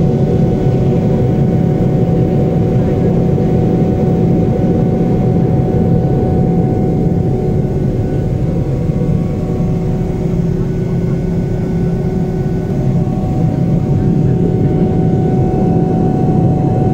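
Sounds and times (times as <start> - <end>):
jet engine cabin rumble: 0.0 - 16.9
steady hums: 0.0 - 16.9.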